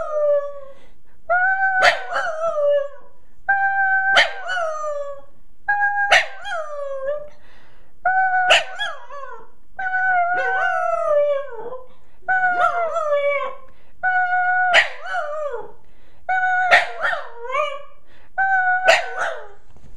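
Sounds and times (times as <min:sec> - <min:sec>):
small dog howling and yipping: 0:01.3 - 0:07.3, 0:08.1 - 0:19.6.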